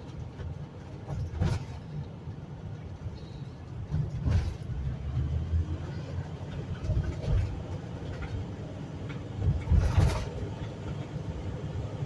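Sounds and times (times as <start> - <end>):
vehicle jolt: 0.0 - 2.0, 3.8 - 12.0
road and engine rumble: 0.0 - 12.0.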